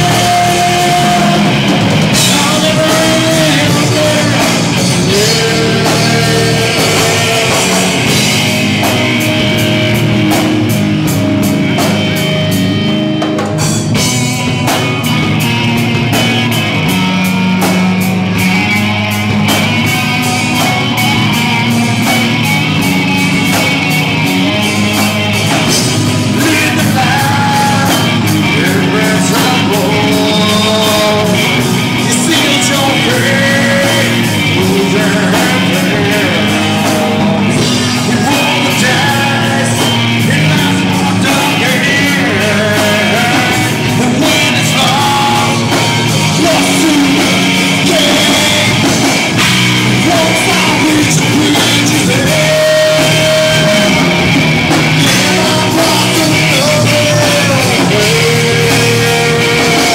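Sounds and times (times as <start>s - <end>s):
lead vocal singing: 0.0s - 59.9s
live rock band playing: 0.0s - 59.9s.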